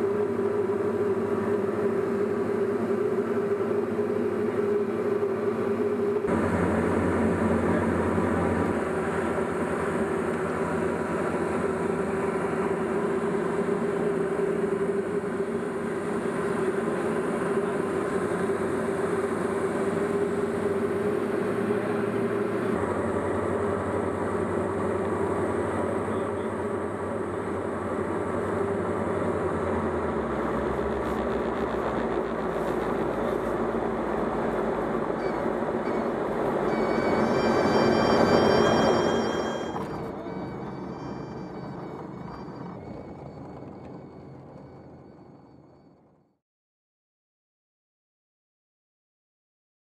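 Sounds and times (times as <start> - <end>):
propeller aircraft engine droning: 0.0 - 46.3.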